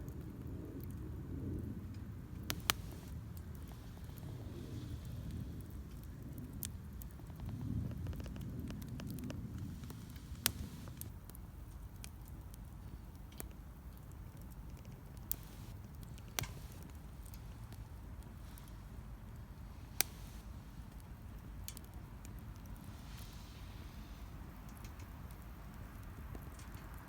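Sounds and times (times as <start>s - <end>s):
fire crackling and popping: 0.0s - 27.0s
wood fire rumbling: 0.0s - 27.0s.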